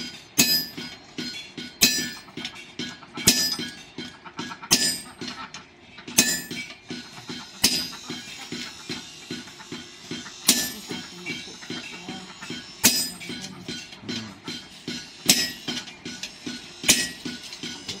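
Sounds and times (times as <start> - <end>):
ringing sledgehammer blows: 0.0 - 5.4, 6.1 - 18.0
hand-hammer tapping on anvil: 0.4 - 5.3, 6.2 - 6.7, 7.6 - 18.0.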